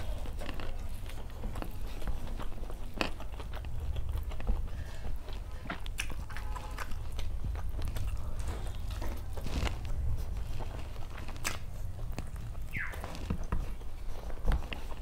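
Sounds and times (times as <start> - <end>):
chewing and mouth smacks: 0.0 - 15.0
steady low hum: 0.0 - 15.0.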